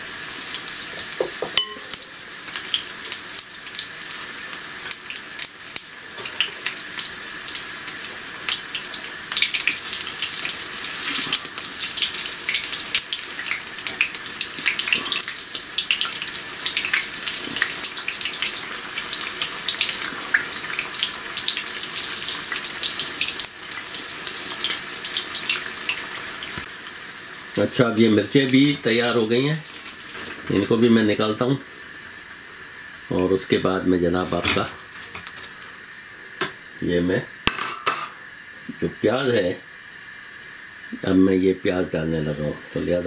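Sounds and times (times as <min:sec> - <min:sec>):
food deep-frying in hot oil: 0:00.0 - 0:43.0
utensil turning food in oil: 0:00.0 - 0:43.0.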